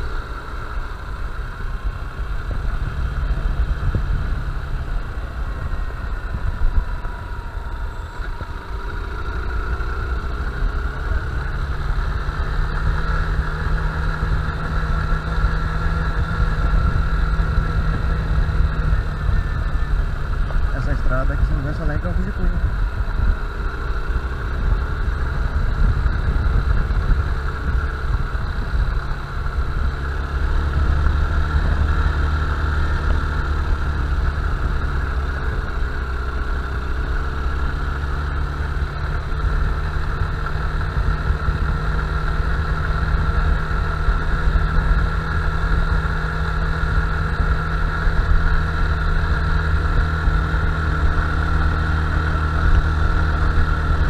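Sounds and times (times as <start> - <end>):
motorcycle engine running steadily: 0.0 - 54.0.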